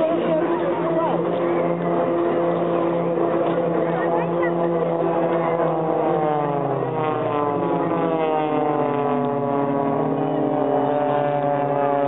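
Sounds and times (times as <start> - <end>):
propeller aircraft flying by: 0.0 - 12.0.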